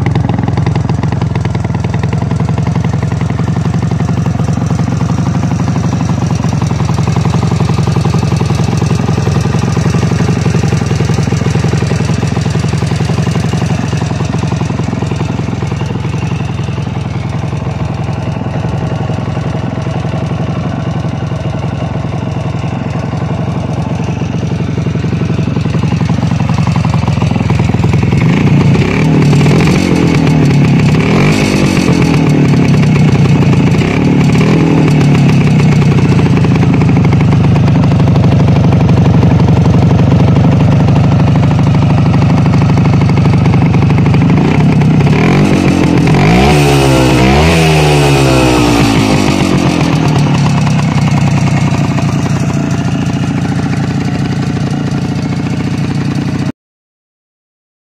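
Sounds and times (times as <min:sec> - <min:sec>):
two-stroke engine idling and revving: 0:00.0 - 0:56.5.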